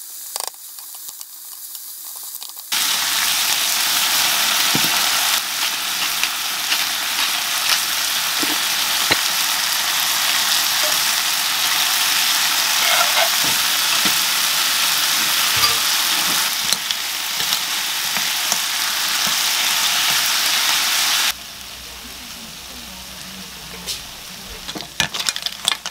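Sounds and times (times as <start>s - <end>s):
sauce sizzling in a frying pan: 0.0s - 25.9s.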